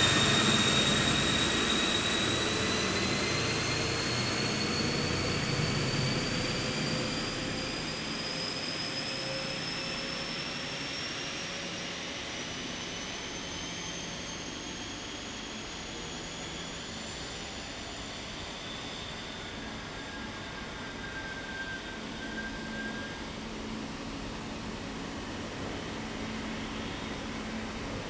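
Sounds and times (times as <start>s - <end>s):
high rising whine: 0.0s - 28.0s.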